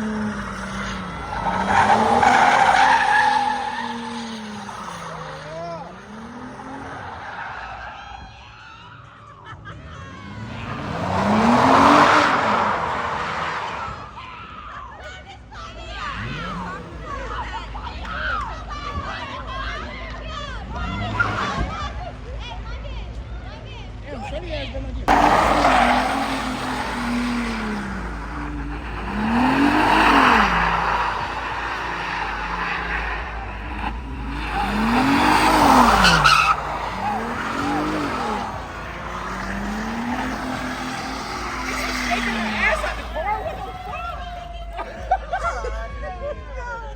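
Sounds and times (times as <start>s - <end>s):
car engine revving: 0.0s - 8.4s, 9.9s - 14.4s, 15.9s - 18.3s, 20.3s - 22.4s, 25.1s - 45.4s
tyres skidding: 0.0s - 24.0s, 25.1s - 46.5s.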